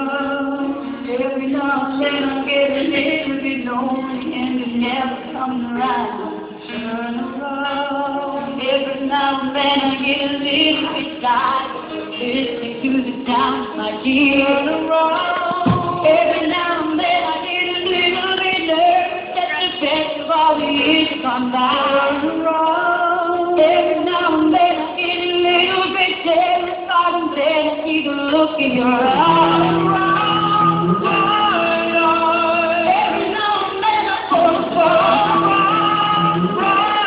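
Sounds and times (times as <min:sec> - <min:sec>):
live band playing: 0:00.0 - 0:23.8, 0:28.4 - 0:37.0.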